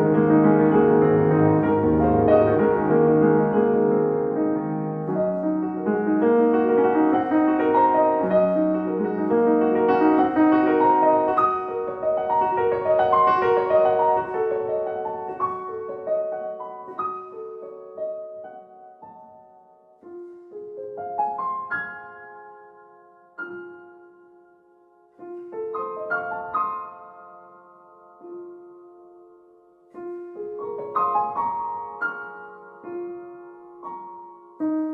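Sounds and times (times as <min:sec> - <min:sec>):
slow solo piano music: 0:00.0 - 0:34.9.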